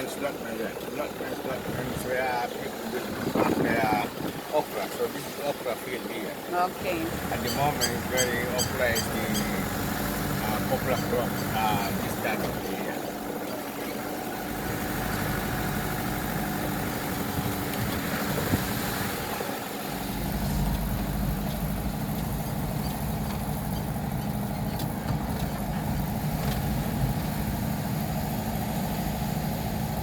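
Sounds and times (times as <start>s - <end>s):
road rumble: 0.0s - 30.0s
vehicle engine running: 0.0s - 30.0s.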